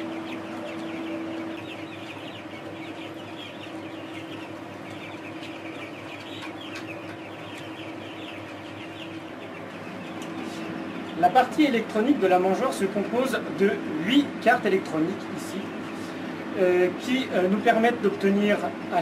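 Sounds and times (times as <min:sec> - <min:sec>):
chicks peeping: 0:00.0 - 0:19.0
steady low hum: 0:00.0 - 0:19.0.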